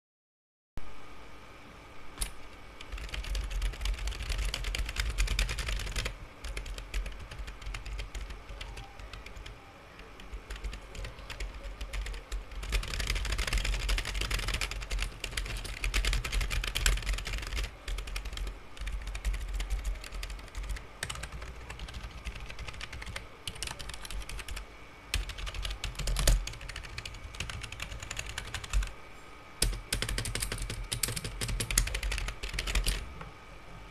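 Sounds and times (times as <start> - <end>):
fast typing on keyboard: 2.8 - 28.9, 29.6 - 33.0.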